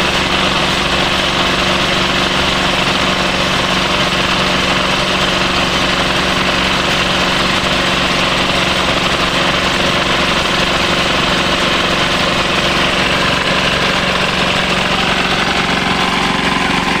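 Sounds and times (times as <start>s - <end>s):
diesel water pump engine running: 0.0s - 17.0s.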